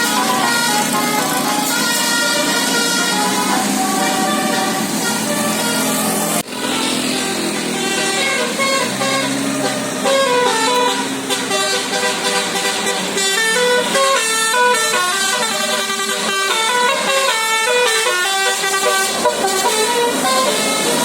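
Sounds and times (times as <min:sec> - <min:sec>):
musical bus air horn melody: 0:00.0 - 0:21.0.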